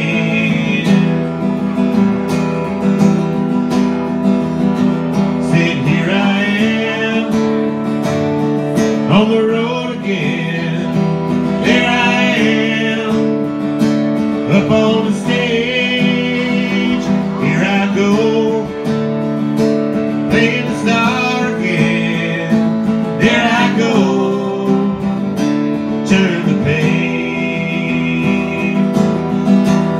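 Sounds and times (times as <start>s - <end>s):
acoustic guitar strumming: 0.0s - 29.9s.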